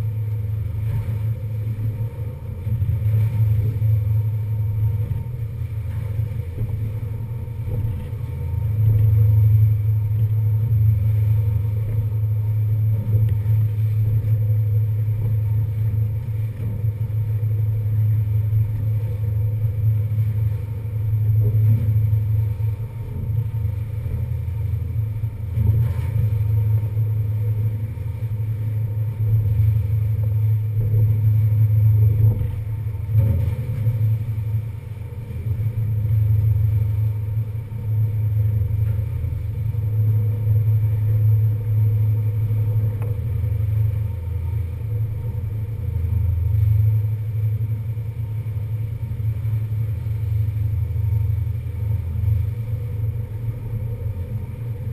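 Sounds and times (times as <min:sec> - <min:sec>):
wind: 0:00.0 - 0:54.9.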